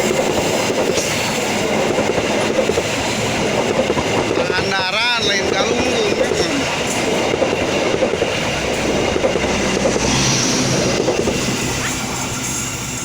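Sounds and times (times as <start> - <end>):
train wheels clattering on rails: 0.0 - 13.0.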